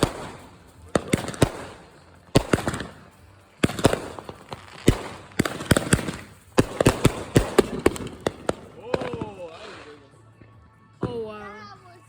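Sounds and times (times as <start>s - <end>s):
fireworks bangs: 0.0s - 9.9s
fireworks crackling: 0.0s - 10.2s.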